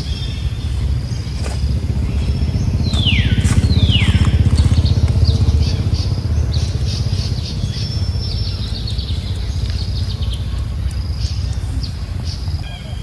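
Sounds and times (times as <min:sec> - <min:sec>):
birds chirping: 0:00.0 - 0:13.0
low rumble: 0:00.0 - 0:13.0.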